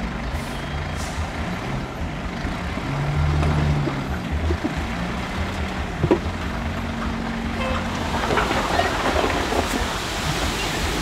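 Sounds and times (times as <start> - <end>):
diesel truck engine running: 0.0 - 9.1.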